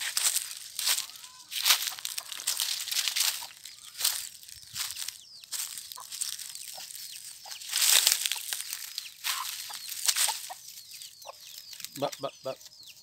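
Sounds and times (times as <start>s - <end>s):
chicks peeping: 0.0s - 13.0s
crunching of dry leaves: 0.0s - 13.0s
hen clucking: 0.0s - 13.0s.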